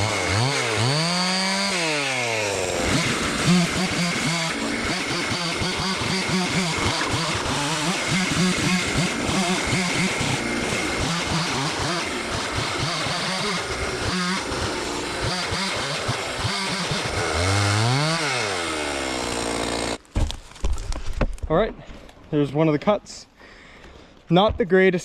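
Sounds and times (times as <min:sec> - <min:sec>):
chainsaw cutting log: 0:00.0 - 0:20.8.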